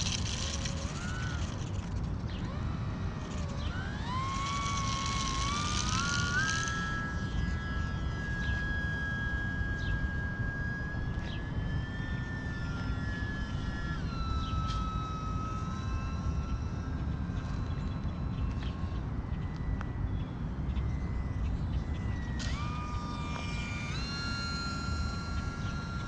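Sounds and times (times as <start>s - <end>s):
model plane propeller whine: 0.0s - 26.0s.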